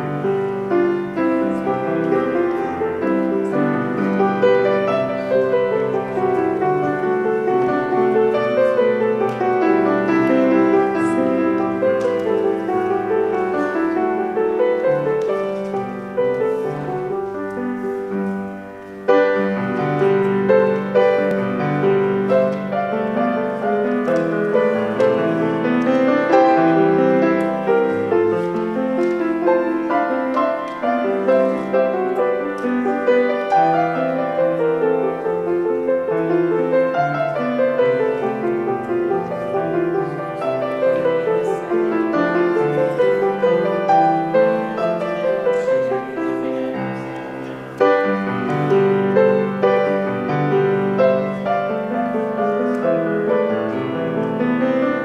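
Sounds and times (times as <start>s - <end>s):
grand piano piece: 0.0s - 55.0s.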